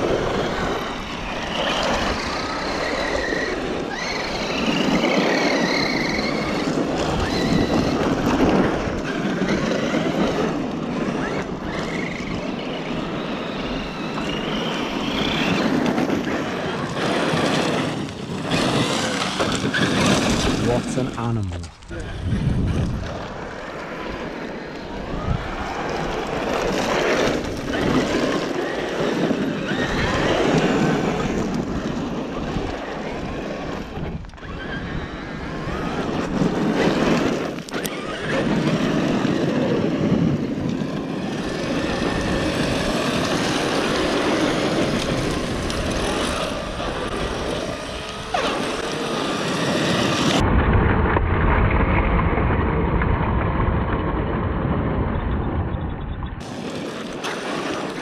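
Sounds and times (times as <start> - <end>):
electric motors whining: 0.0 - 50.4.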